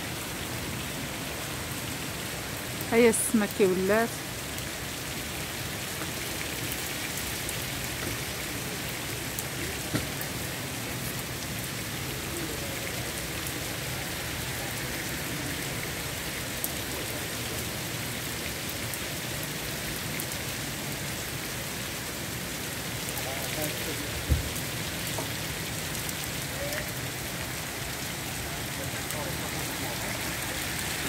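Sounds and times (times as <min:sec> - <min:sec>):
heavy rain on roofs and pavement: 0:00.0 - 0:31.0.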